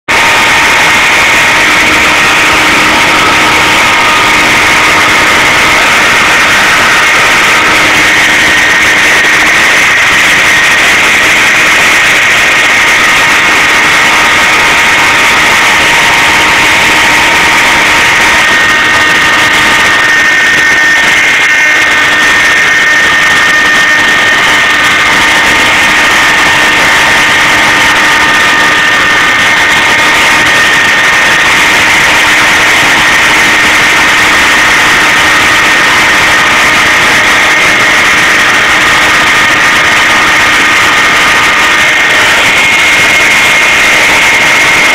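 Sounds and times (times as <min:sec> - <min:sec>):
cnc machine whining: 0:00.1 - 0:44.9.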